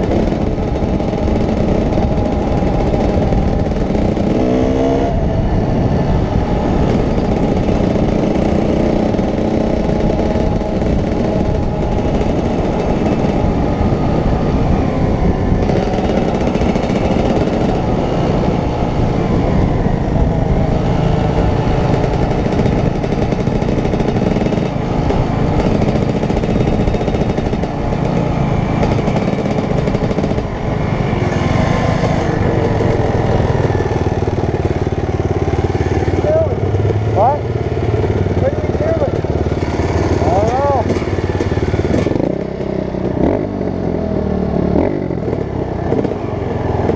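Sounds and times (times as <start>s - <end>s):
dirt bike engine running: 0.0s - 46.9s.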